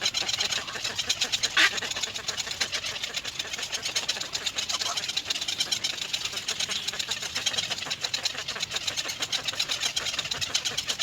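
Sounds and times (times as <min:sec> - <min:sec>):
nestling birds chattering: 0:00.0 - 0:11.0.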